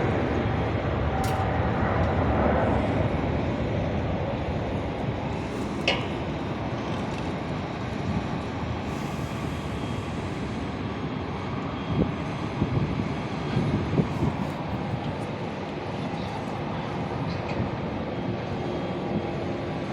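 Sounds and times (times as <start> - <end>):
aeroplane roar: 0.0 - 19.9.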